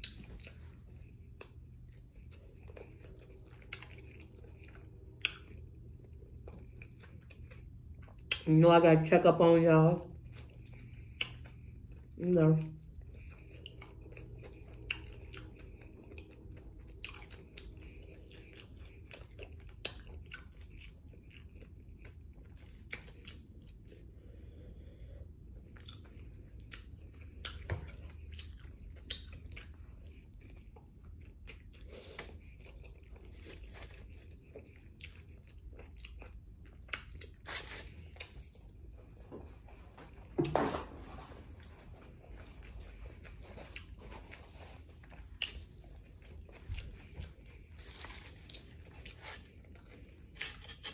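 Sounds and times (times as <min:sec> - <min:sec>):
person chewing food: 0:00.0 - 0:08.5, 0:10.1 - 0:40.5, 0:41.1 - 0:50.9.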